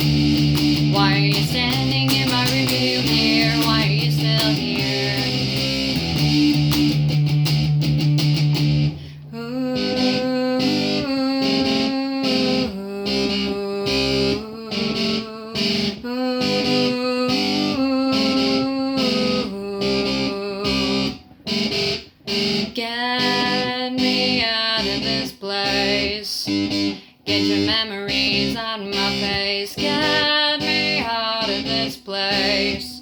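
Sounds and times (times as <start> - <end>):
pop-rock music with guitars: 0.0 - 9.1, 9.8 - 33.0
picked electric guitar figure: 0.0 - 33.0.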